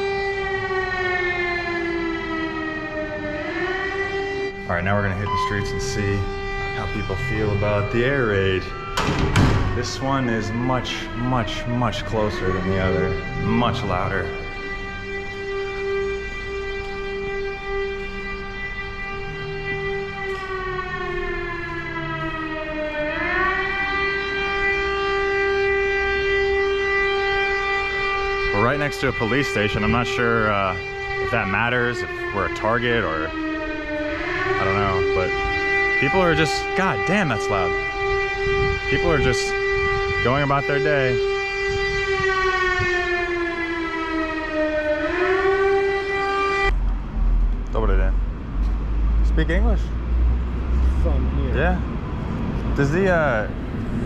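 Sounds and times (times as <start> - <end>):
loud air raid siren: 0.0 - 54.0.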